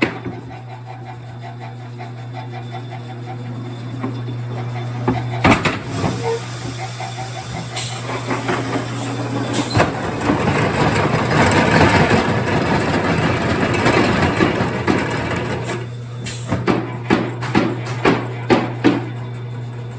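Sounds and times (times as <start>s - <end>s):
machine humming: 1.1s - 19.9s.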